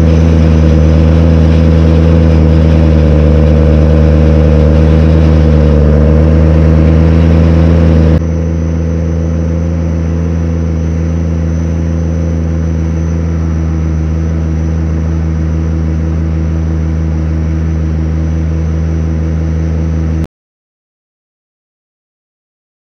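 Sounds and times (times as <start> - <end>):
tractor engine running: 0.0 - 20.3.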